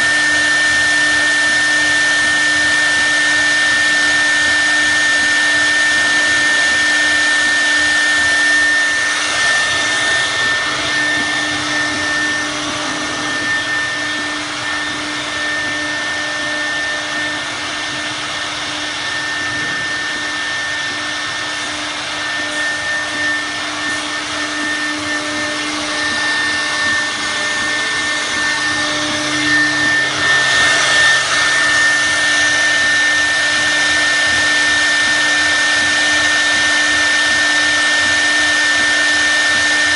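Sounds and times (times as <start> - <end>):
bit carving wood: 0.0 - 18.9, 21.4 - 39.9
router spindle whine: 0.0 - 39.9.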